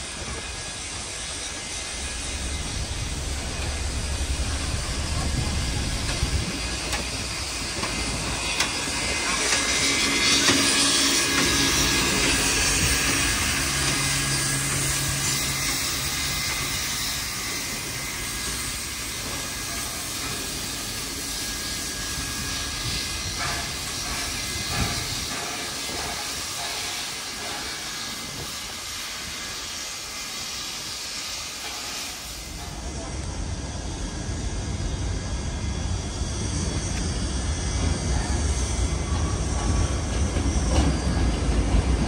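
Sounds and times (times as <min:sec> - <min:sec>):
steam locomotive hissing: 0:00.0 - 0:42.0.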